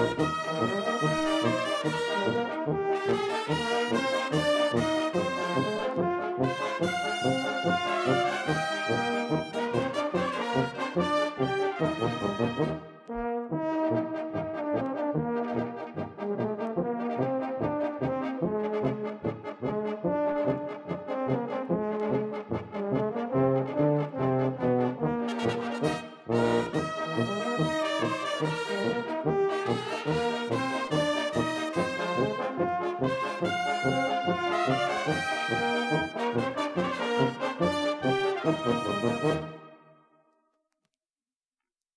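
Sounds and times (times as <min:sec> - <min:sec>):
brass military band playing march: 0:00.0 - 0:39.8.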